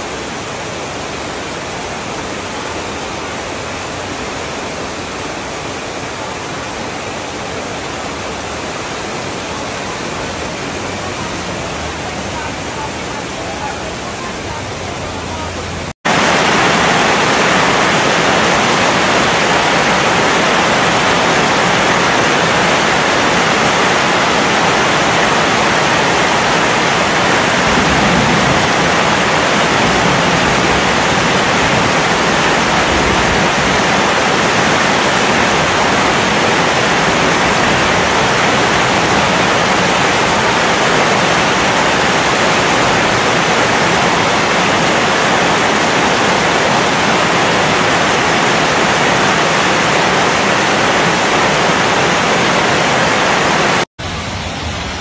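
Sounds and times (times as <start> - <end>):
heavy rain pouring: 0.0 - 55.0
runoff streaming off roof: 0.0 - 55.0.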